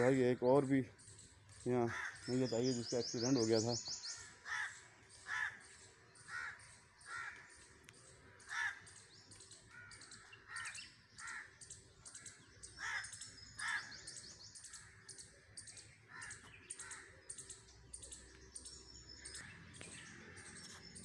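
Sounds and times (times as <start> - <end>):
bird repeated calls: 0.0 - 21.0
high chirping of small birds: 0.0 - 21.0.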